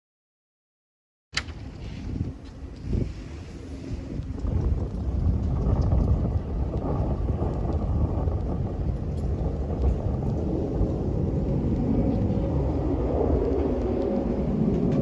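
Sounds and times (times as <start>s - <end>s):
airliner engines rumbling: 1.4s - 15.0s
rushing air: 1.4s - 15.0s.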